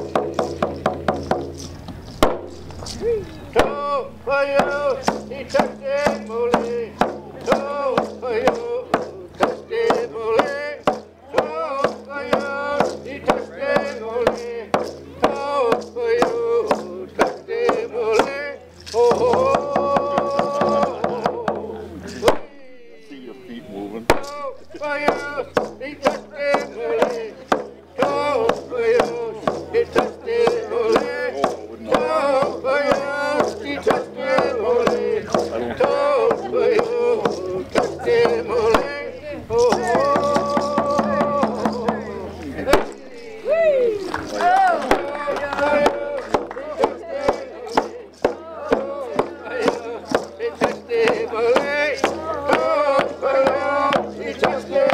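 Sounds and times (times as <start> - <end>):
hand drum beating: 0.0 - 54.9
person singing: 2.6 - 54.9.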